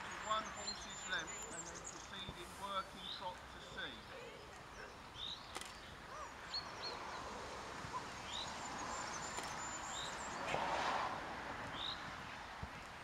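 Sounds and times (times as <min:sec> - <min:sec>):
small birds chirping: 0:00.0 - 0:10.6, 0:11.6 - 0:13.0
outdoor background hiss: 0:00.0 - 0:13.0.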